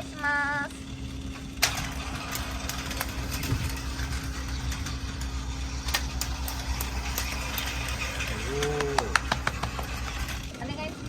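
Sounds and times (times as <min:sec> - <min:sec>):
toy train motor hum: 0:00.0 - 0:11.0
light clicks from wheels and track: 0:01.2 - 0:10.6.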